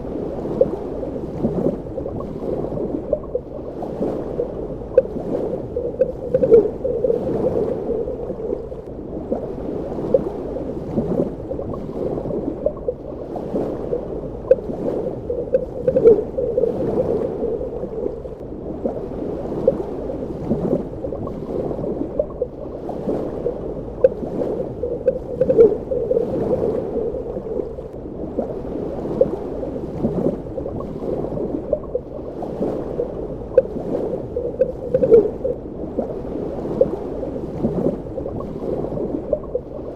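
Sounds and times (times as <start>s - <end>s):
underwater water movement: 0.0s - 39.9s
water gurgling: 0.0s - 39.9s.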